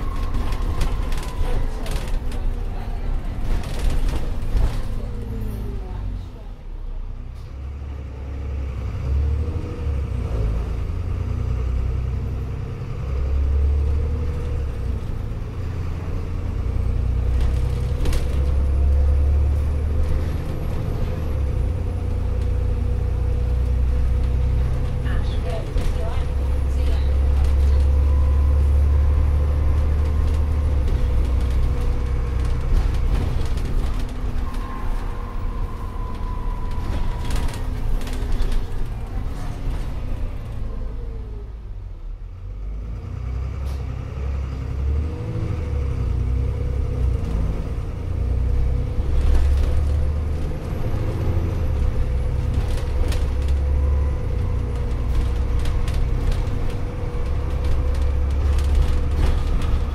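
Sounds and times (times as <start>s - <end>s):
bus engine drone: 0.0s - 59.9s
rattles inside bus: 0.0s - 59.9s.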